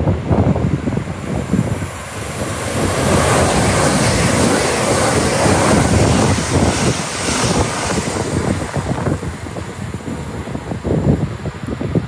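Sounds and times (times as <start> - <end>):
train passing at speed: 0.0 - 11.7
wind noise on microphone: 0.0 - 12.0.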